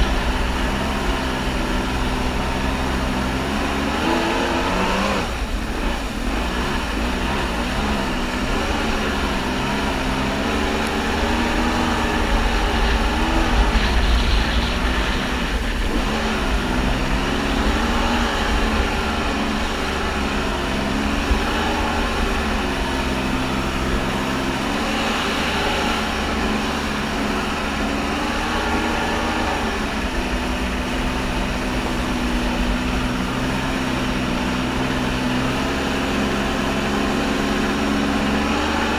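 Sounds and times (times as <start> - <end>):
jet ski engine revving: 0.0 - 38.9
water and wind rumble: 0.0 - 38.9.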